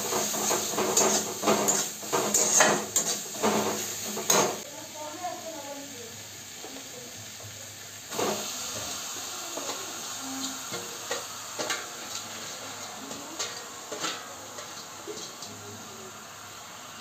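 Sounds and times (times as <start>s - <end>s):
frying sizzle in a pan: 0.0s - 17.0s.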